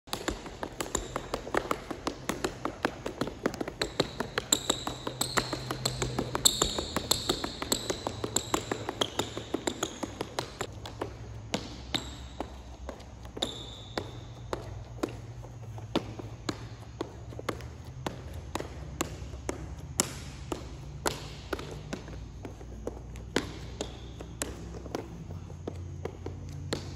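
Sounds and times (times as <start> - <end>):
sneaker footsteps on tiled floor: 0.0 - 26.9
sneaker squeaks: 0.1 - 26.9.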